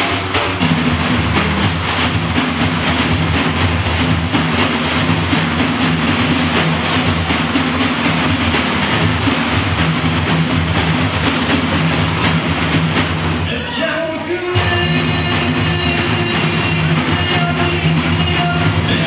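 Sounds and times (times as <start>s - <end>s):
frame drums rolling rhythm: 0.0s - 19.0s.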